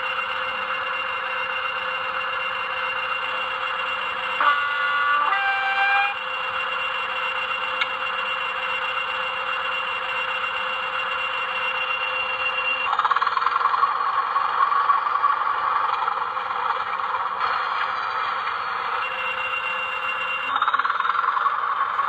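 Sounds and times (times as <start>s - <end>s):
tinny diesel engine sound effect: 0.0s - 22.0s.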